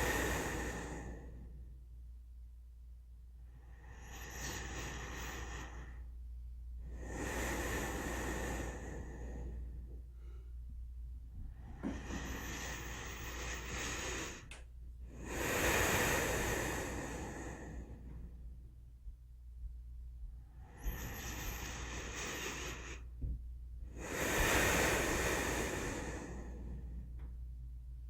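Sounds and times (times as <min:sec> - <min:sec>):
slow calm breathing: 0:00.0 - 0:02.0, 0:03.3 - 0:27.6.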